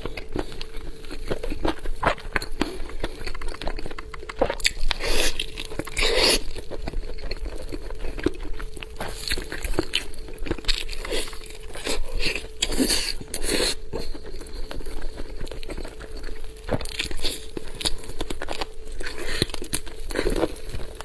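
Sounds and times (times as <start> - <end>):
chewing chicken with crunches: 0.0 - 21.0.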